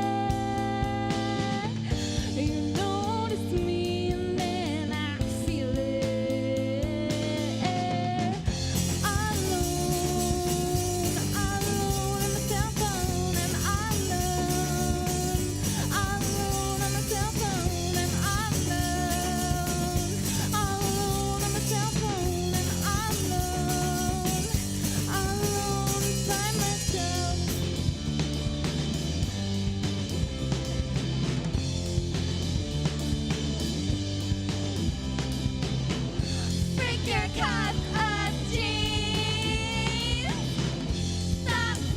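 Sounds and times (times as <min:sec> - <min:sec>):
drum kit: 0:00.0 - 0:41.9
electric guitar: 0:00.0 - 0:41.9
rock music: 0:00.0 - 0:41.9.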